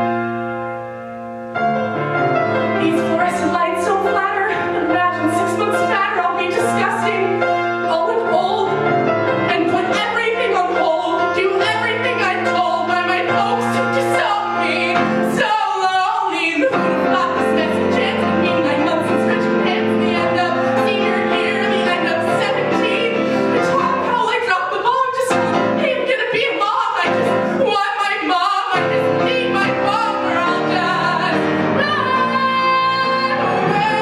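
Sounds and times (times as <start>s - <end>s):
piano accompaniment: 0.0s - 34.0s
woman singing: 2.8s - 34.0s.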